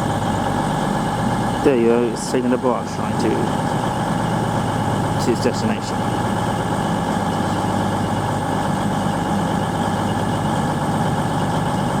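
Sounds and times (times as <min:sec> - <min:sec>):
train running mechanical hum: 0:00.0 - 0:12.0.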